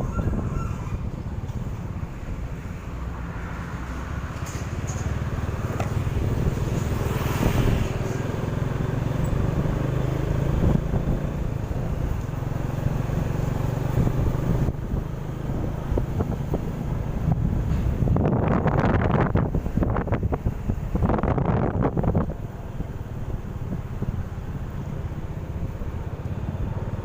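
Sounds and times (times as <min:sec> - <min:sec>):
vehicle engines humming: 0:00.0 - 0:27.0
vehicle passing loudly: 0:02.6 - 0:27.0.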